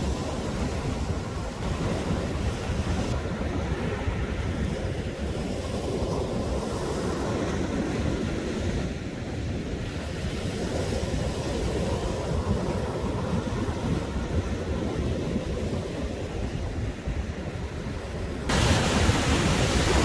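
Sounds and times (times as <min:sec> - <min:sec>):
sea waves on beach: 0:00.0 - 0:20.0
wind buffeting microphone: 0:00.0 - 0:20.0.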